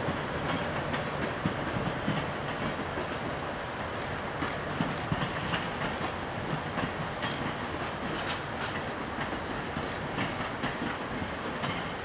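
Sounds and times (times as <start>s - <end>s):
train cars rumbling past: 0.0s - 12.0s
wheels clicking on rails: 0.0s - 12.0s.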